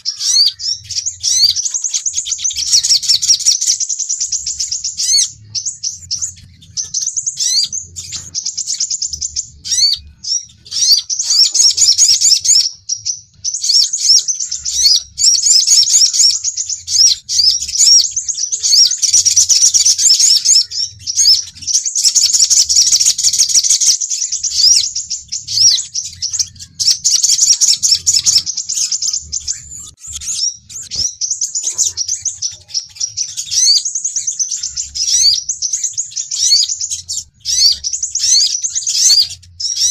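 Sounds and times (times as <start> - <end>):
high-pitched bird twittering: 0.0 - 39.9.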